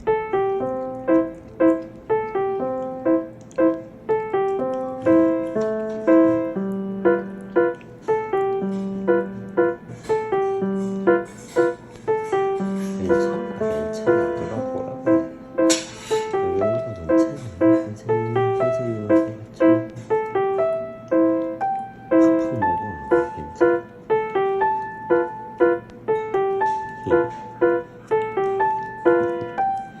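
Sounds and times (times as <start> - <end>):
piano tune: 0.0 - 30.0.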